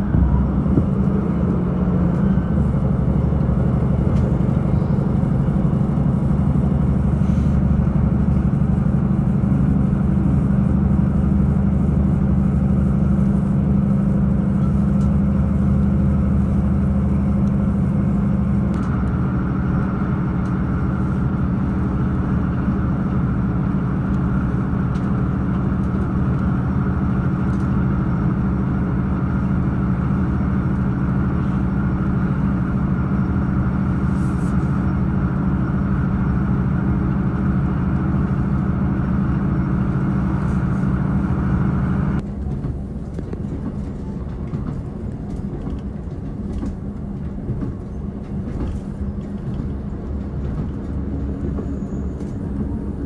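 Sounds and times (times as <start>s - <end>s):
diesel train engine hum: 0.0s - 53.0s
train rumbling: 0.0s - 53.0s.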